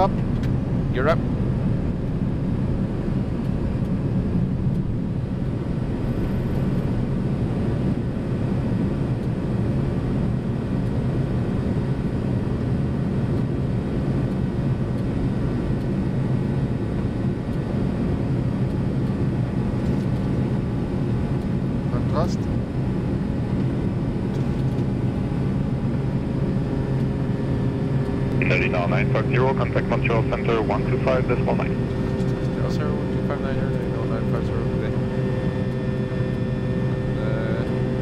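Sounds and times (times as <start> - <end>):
jet engines at climb power: 0.0 - 38.0.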